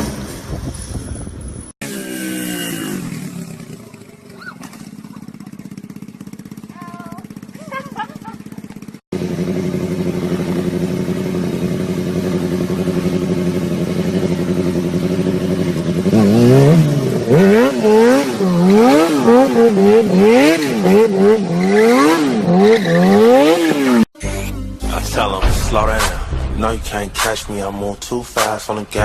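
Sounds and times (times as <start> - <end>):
motorcycle engine idling and revving: 0.0 - 24.2, 26.6 - 29.0.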